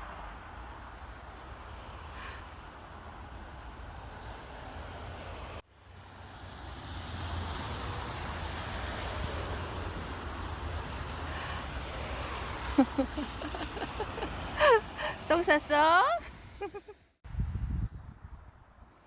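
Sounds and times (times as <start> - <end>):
outdoor background rumble: 0.0 - 19.0.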